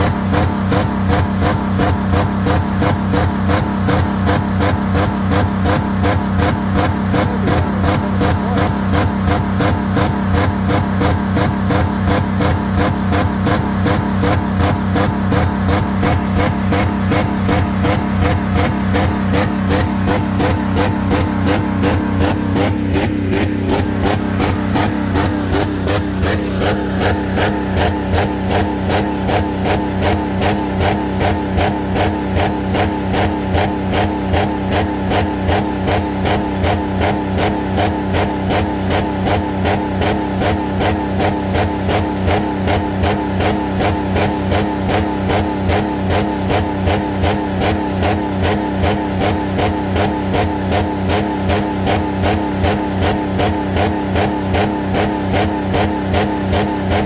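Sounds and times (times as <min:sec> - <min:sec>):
engine running rough: 0:00.0 - 0:57.0.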